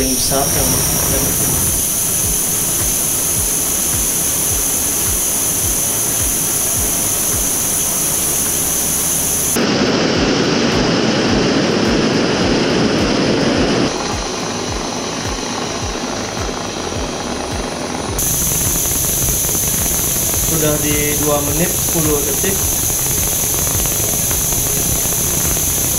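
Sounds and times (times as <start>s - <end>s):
camp stove roaring hiss: 0.0s - 25.9s.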